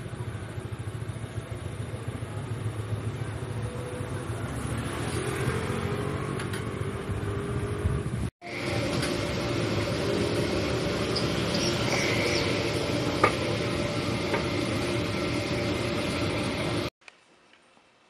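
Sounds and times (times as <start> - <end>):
noisy street hum: 0.0 - 16.9.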